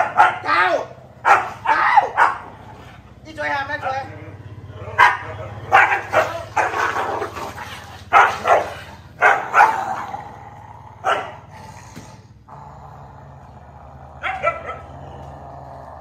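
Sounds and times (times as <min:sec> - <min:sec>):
dogs snarling and barking: 0:00.0 - 0:16.0
low hum: 0:00.0 - 0:16.0.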